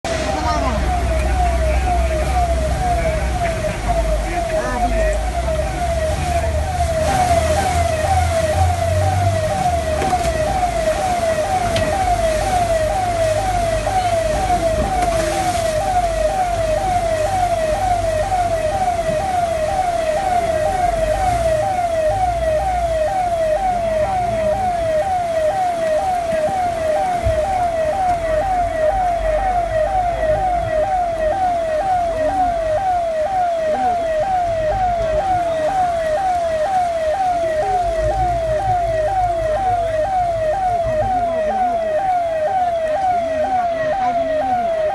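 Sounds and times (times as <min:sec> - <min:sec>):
electronic siren yelping: 0:00.1 - 0:44.9.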